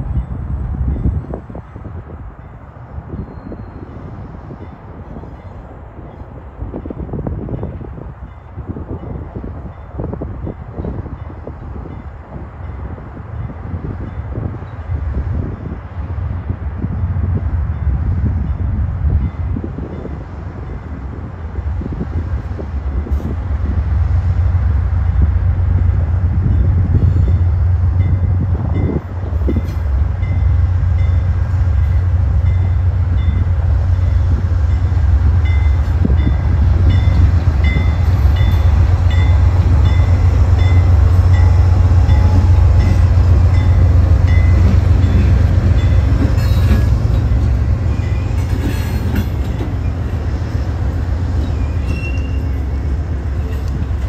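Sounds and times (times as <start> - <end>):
diesel train rumbling past: 0.0 - 54.0.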